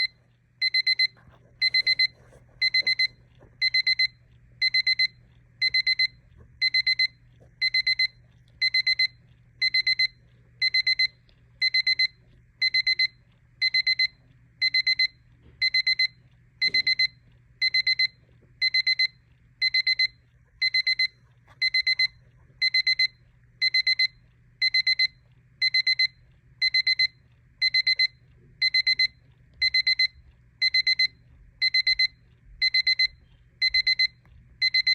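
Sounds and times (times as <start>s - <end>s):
alarm clock beeping: 0.0s - 34.9s.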